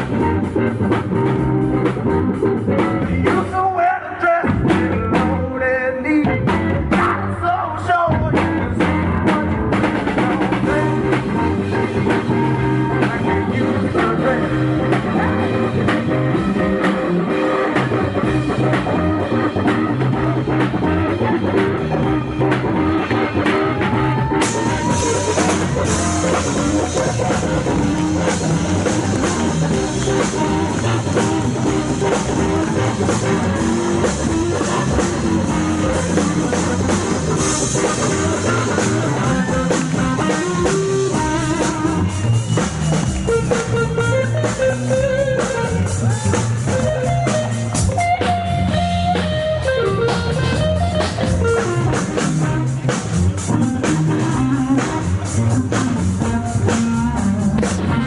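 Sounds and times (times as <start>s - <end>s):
lead electric guitar bending notes: 0.0s - 3.8s, 4.4s - 58.0s
drum kit: 0.0s - 58.0s
rhythm guitar: 0.0s - 58.0s.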